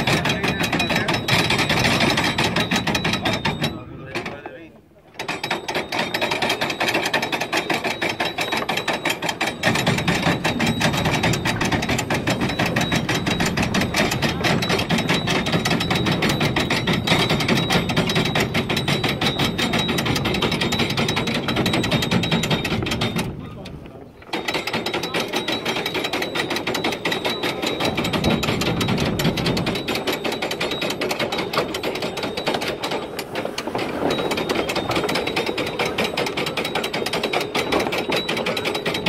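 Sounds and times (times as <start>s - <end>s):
winch pawl clicking: 0.0s - 39.0s.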